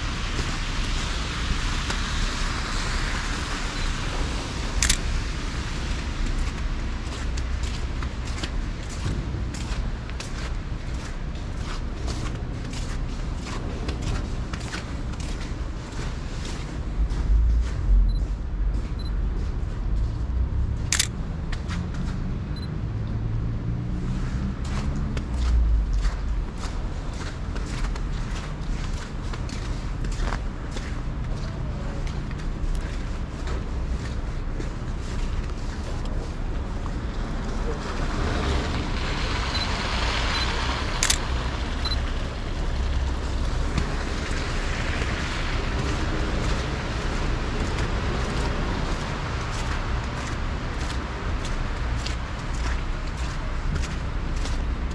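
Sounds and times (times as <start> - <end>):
low street rumble: 0.0 - 54.9.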